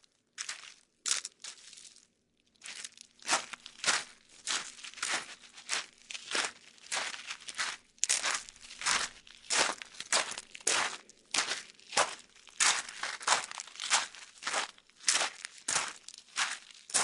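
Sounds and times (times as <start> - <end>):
footsteps crunching on loose ground: 0.4 - 17.0.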